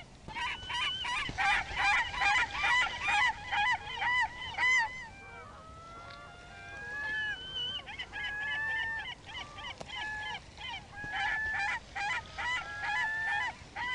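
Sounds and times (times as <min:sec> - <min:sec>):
seagulls squawking: 0:00.0 - 0:13.9.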